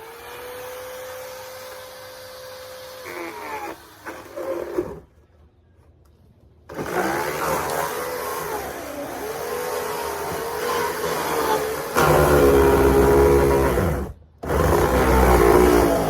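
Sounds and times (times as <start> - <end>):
power saw cutting: 0.0 - 5.1, 6.7 - 16.0.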